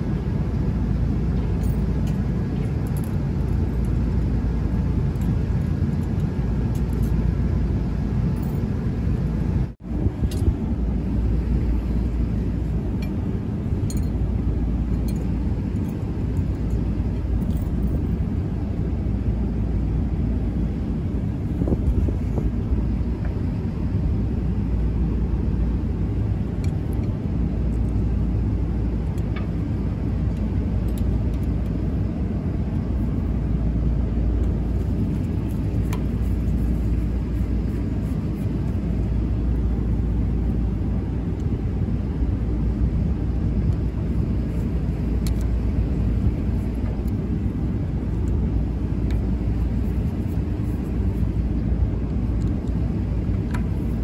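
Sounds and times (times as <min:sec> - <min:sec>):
low background rumble: 0:00.0 - 0:54.0.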